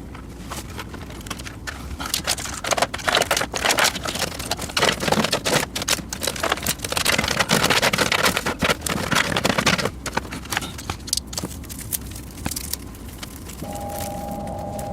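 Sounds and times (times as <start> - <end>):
plastic parts clicking and scraping: 0.1 - 13.7.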